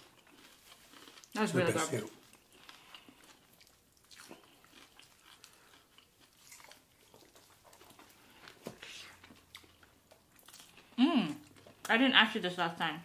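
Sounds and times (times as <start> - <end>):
people chewing crunchy food: 0.0 - 12.1.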